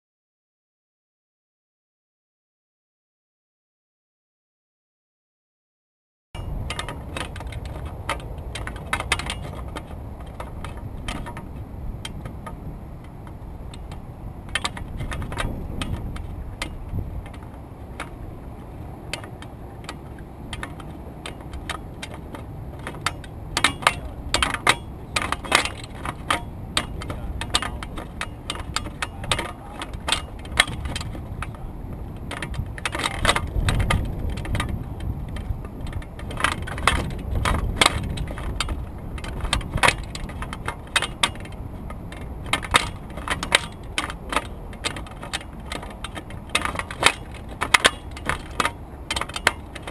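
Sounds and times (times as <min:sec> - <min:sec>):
light clicks and rattles: 0:06.4 - 0:49.9
wind buffeting microphone: 0:06.4 - 0:49.9.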